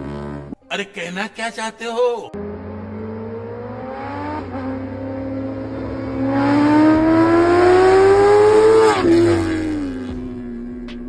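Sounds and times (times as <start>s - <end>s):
motorcycle engine accelerating: 0.0s - 0.6s, 2.4s - 11.0s.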